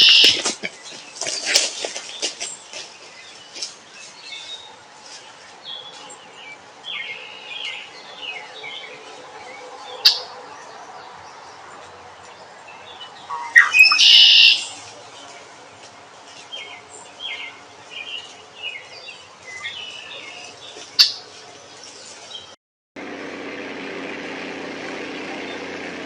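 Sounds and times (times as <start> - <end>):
birds chirping: 0.0 - 22.6.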